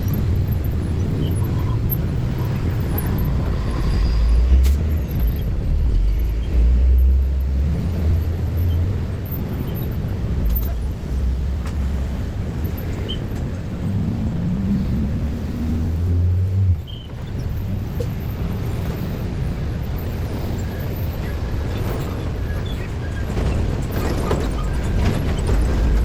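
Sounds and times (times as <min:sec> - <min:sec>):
engine low hum: 0:00.0 - 0:26.0
traffic engines rumbling: 0:00.0 - 0:26.0.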